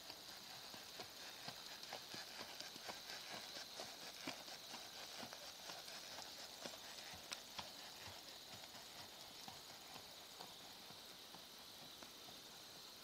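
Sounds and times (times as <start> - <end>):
horse hoofbeats on sand: 0.0 - 13.0
steady high hiss: 0.0 - 13.0.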